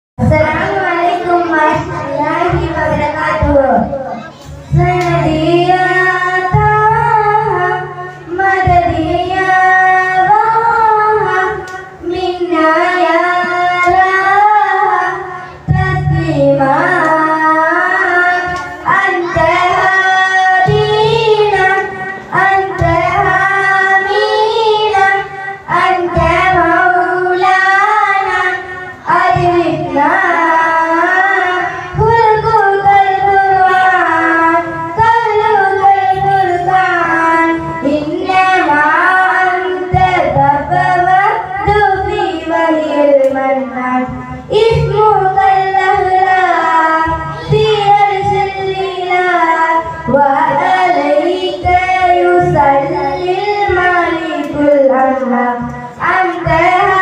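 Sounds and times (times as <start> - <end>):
girls singing devotional song: 0.2 - 57.0.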